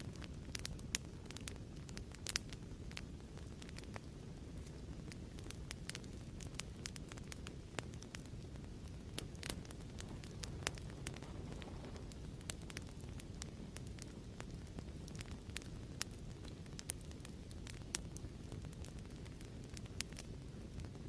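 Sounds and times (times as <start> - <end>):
fire pops and crackles: 0.0 - 21.0
fire rumbling: 0.0 - 21.0.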